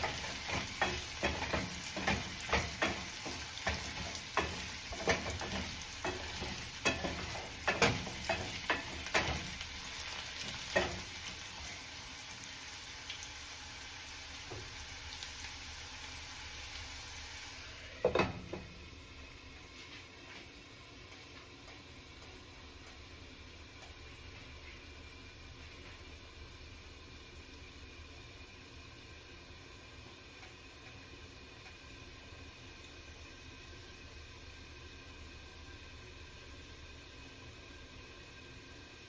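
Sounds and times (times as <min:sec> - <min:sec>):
potatoes sizzling in oil: 0:00.0 - 0:39.0.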